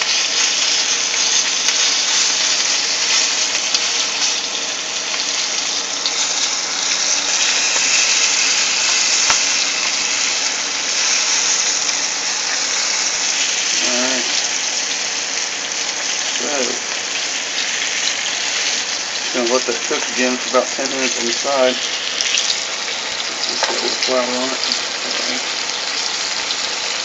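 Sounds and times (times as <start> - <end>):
meat sizzling in hot oil: 0.0 - 27.0
oil popping: 0.0 - 27.0.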